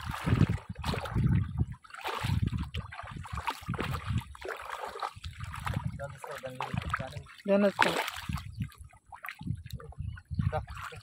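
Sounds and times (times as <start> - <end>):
shallow water sloshing and splashing: 0.0 - 11.0.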